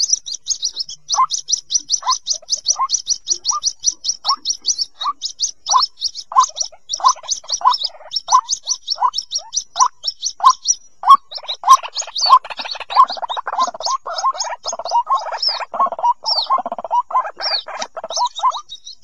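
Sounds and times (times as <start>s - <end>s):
chicks peeping: 0.0s - 19.0s
harsh chattering churring: 0.0s - 19.0s.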